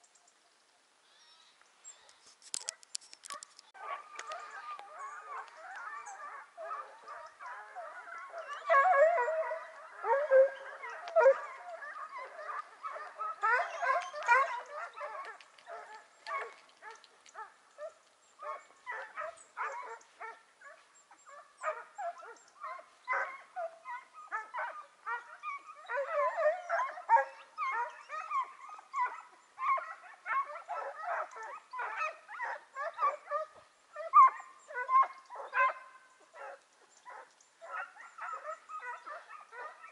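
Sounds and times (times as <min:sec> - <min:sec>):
hounds yelping and howling: 0:02.5 - 0:39.9.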